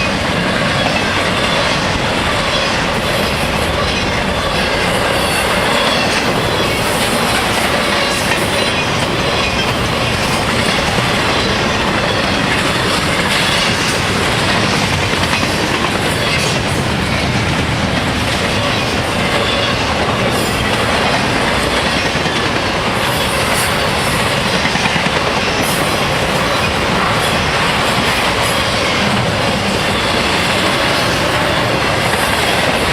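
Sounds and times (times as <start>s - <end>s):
freight train cars rolling past: 0.0s - 32.9s.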